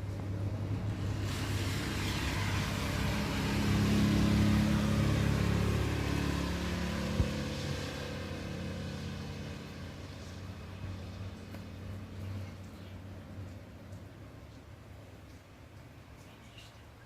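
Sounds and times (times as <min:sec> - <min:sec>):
vehicle passing on wet street: 0:00.0 - 0:16.7.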